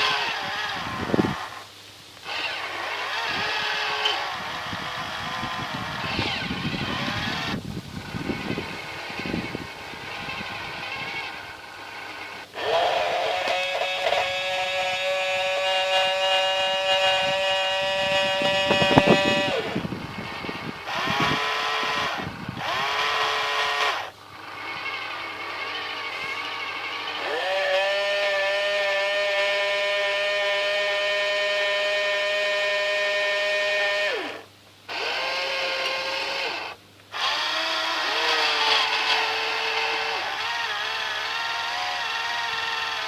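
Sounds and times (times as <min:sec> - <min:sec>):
small electric motors whining: 0:00.0 - 0:43.0.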